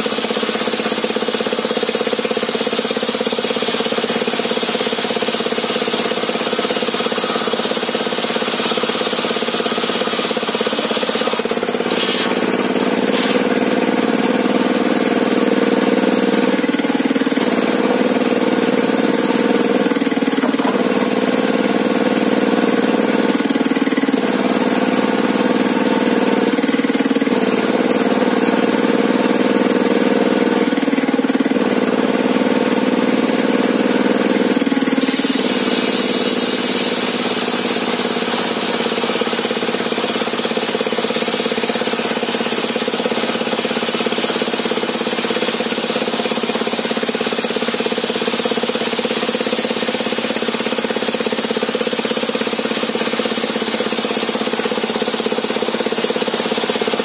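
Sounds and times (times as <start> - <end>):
engine running saw: 0.0 - 57.0.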